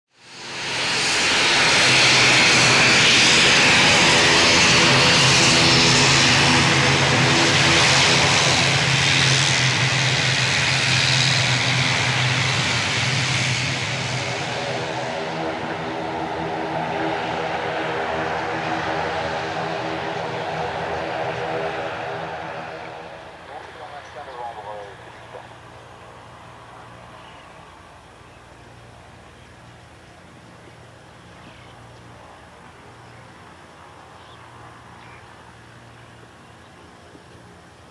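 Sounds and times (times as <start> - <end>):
turboprop airliner taxiing: 0.2 - 37.9.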